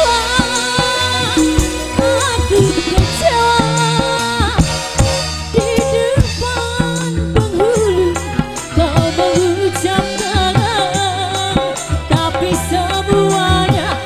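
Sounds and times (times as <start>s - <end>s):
bass notes: 0.0s - 14.0s
drum beat: 0.0s - 14.0s
woman singing: 0.0s - 14.0s.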